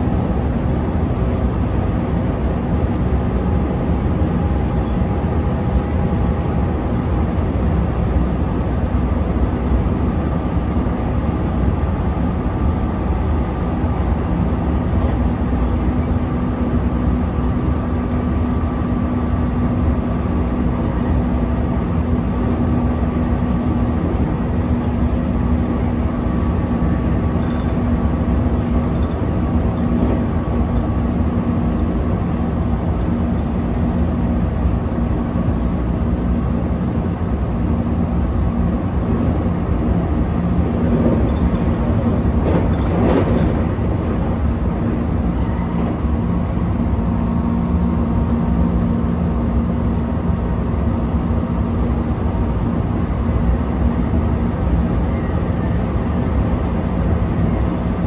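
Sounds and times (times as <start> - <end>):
electric train rumble and hum: 0.0 - 58.0.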